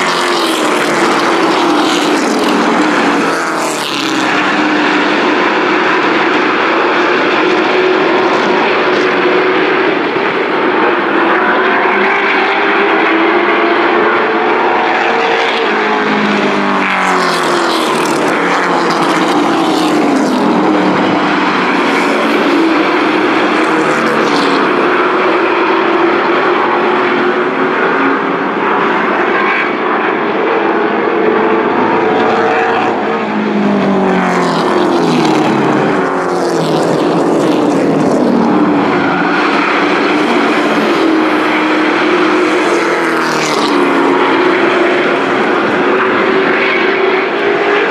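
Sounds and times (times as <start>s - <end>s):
race truck engines passing: 0.0s - 47.9s.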